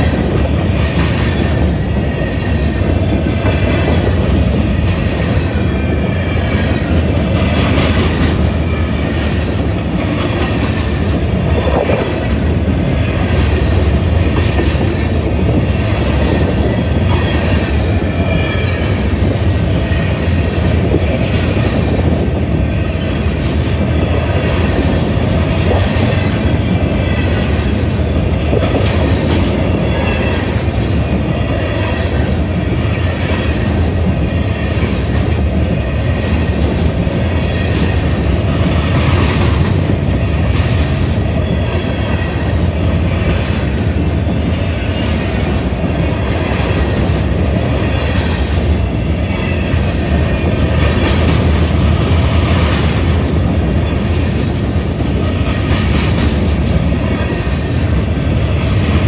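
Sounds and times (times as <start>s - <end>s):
freight train rumbling past: 0.0s - 59.0s
wheels clacking on rail joints: 0.0s - 59.0s.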